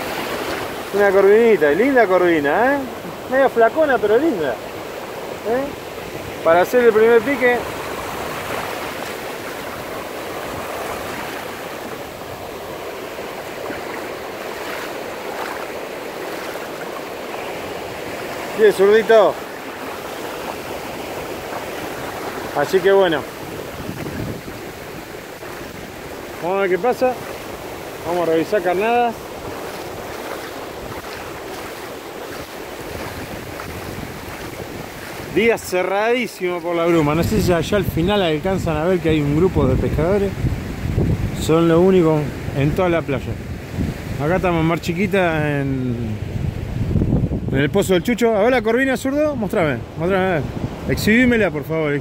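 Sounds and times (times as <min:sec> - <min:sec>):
sea surf washing over sand: 0:00.0 - 0:52.0
wind on microphone: 0:04.8 - 0:35.7, 0:37.0 - 0:48.1, 0:49.2 - 0:51.6.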